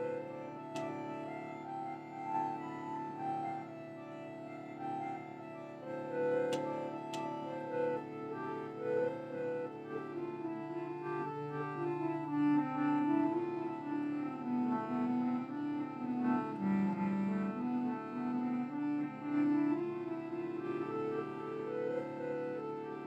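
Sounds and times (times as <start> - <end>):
slow melody of held notes: 0.0 - 23.0.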